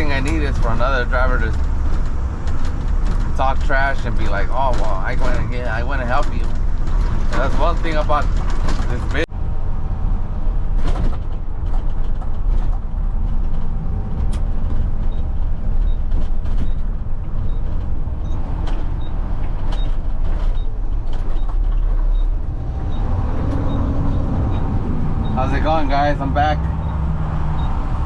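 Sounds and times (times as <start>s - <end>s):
knocks and rattles: 0.0s - 9.3s, 10.5s - 28.0s
truck diesel engine rumbling: 0.0s - 28.0s.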